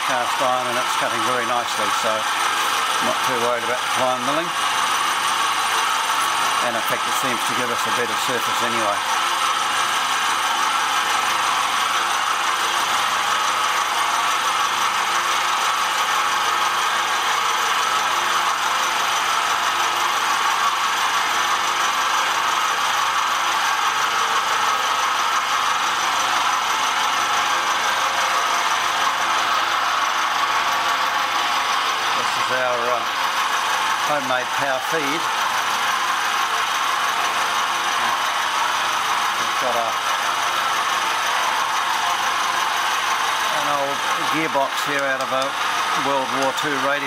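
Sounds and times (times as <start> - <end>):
milling machine cutting metal: 0.0 - 47.0.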